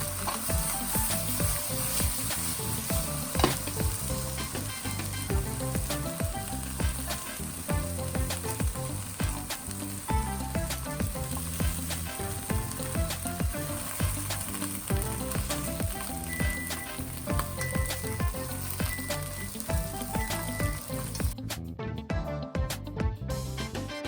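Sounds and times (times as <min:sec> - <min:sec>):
food sizzling in frying oil: 0:00.0 - 0:21.4.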